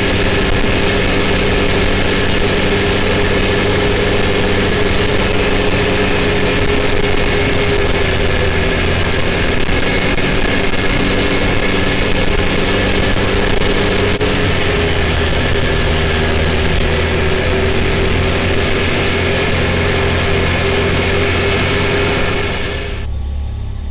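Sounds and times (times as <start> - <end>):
tyres on pavement: 0.0 - 23.1
wind noise: 0.0 - 23.1
engine droning at cruise: 0.0 - 23.9.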